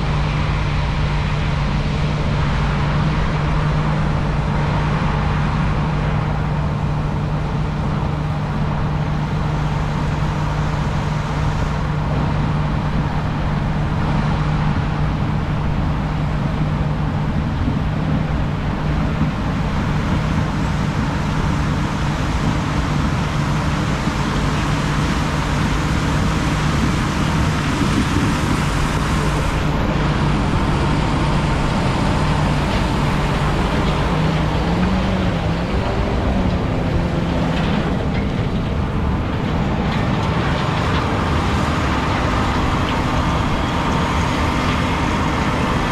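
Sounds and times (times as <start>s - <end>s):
vehicle engine humming: 0.0s - 45.9s.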